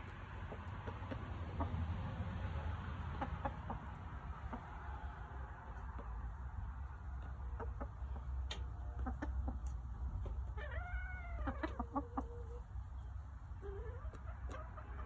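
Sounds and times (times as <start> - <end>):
hens clucking and calling: 0.3 - 15.0.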